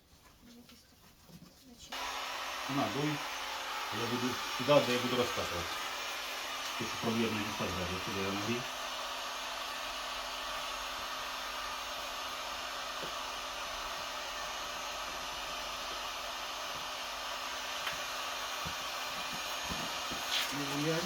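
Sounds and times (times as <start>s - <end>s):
heat gun blowing air: 1.9s - 21.0s.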